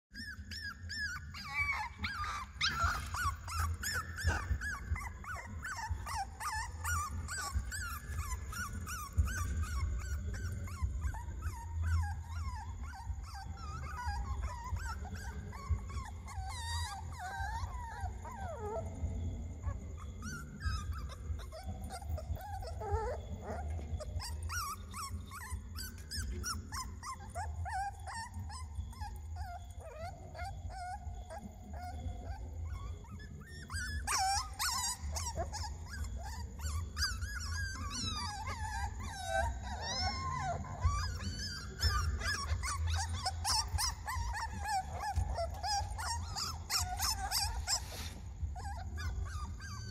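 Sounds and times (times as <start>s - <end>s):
puppy screaming: 0.2s - 49.9s.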